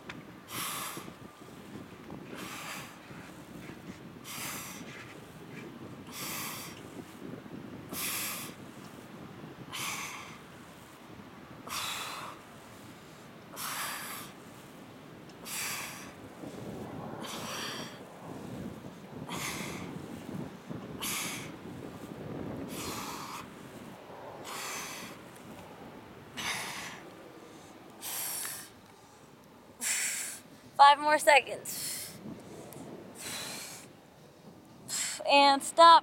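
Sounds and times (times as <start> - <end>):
steady low hiss: 0.0 - 36.0.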